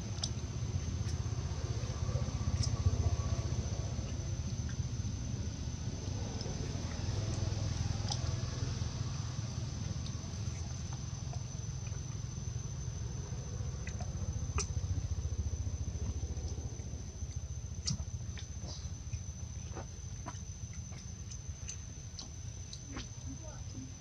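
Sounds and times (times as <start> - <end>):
high insect drone: 0.0 - 24.0
low rumble: 0.0 - 24.0.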